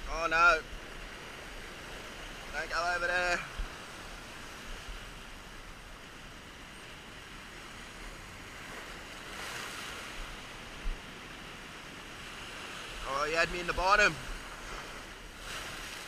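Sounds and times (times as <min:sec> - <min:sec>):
ocean surf washing against rocks: 0:00.0 - 0:16.0.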